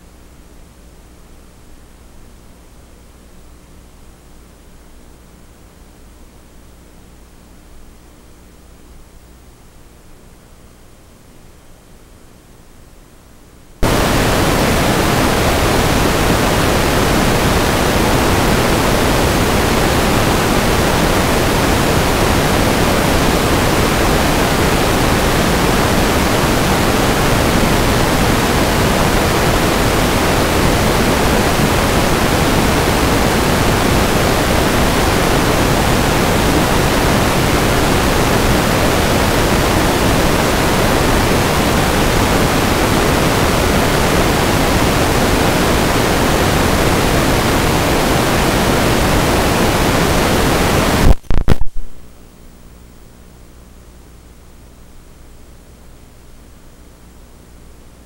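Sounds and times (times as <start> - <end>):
loud static hiss: 0.0 - 10.3, 13.5 - 58.0.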